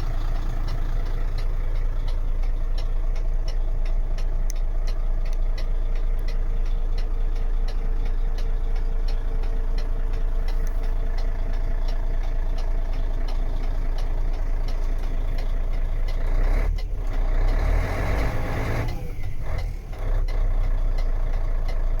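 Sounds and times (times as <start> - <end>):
faint regular ticking: 0.0 - 22.0
truck diesel engine idling: 0.0 - 22.0.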